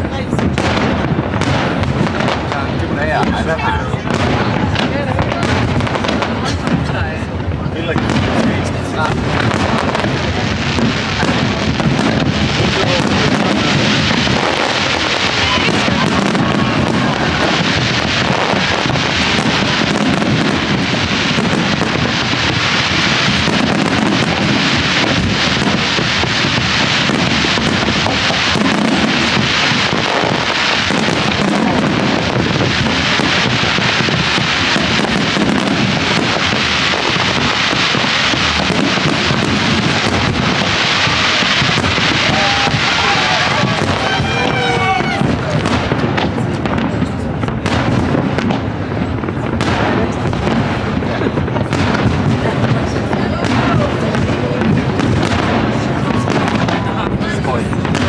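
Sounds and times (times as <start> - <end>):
crowd chatter: 0.0 - 58.0
fireworks bursting and crackling: 0.0 - 58.0.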